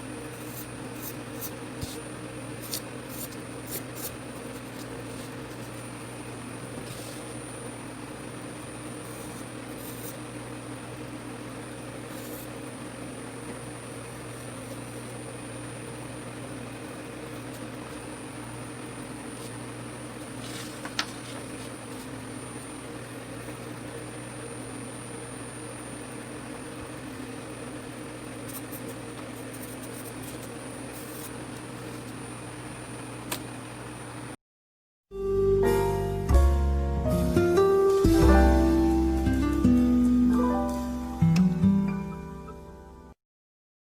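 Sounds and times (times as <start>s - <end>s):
steady machine hum: 0.0s - 34.4s, 35.2s - 43.1s.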